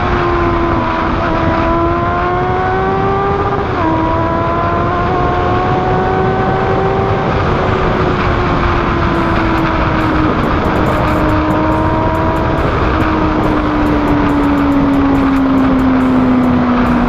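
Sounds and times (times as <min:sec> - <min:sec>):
motorcycle engine running: 0:00.0 - 0:17.0
wind noise: 0:00.0 - 0:17.0.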